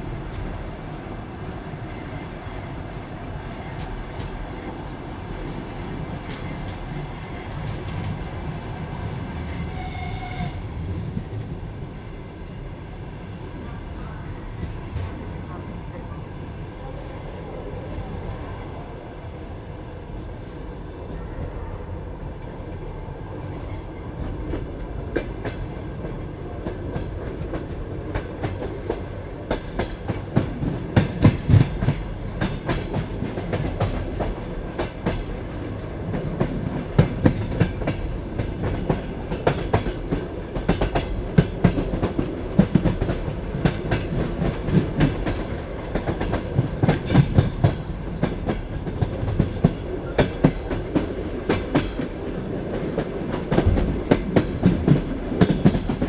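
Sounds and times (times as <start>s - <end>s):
train carriage rumbling: 0.0s - 56.0s.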